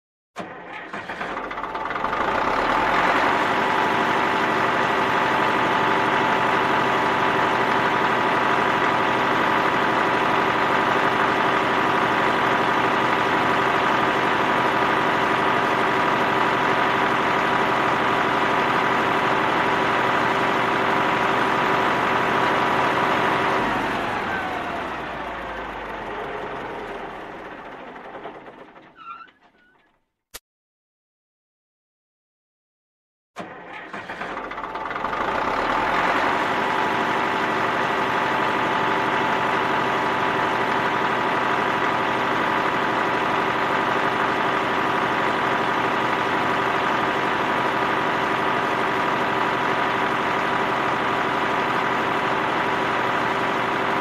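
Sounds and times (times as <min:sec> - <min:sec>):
heavy vehicle engine running: 0:00.4 - 0:29.4, 0:33.4 - 0:54.0.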